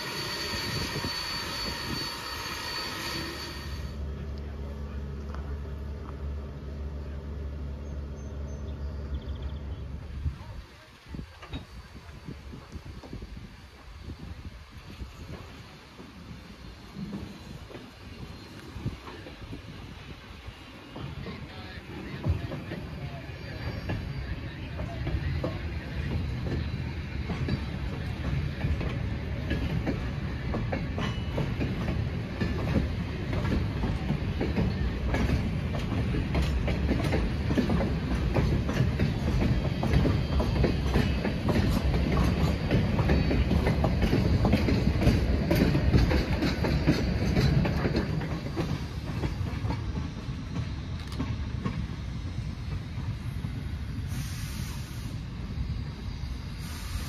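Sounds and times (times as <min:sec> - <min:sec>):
steam train rolling past: 0:00.0 - 0:57.0.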